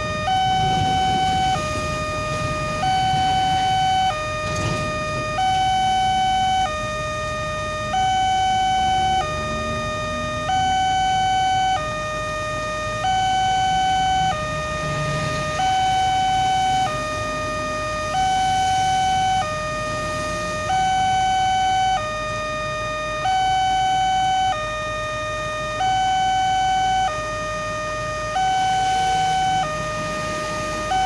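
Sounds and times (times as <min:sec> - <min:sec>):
level crossing two-tone alarm: 0:00.0 - 0:31.0
low rumble of waiting traffic: 0:00.0 - 0:31.0.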